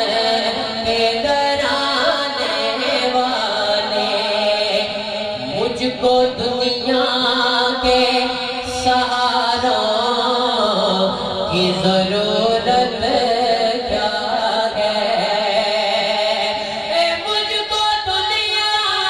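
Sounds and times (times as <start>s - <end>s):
man chanting into a microphone: 0.0s - 19.0s.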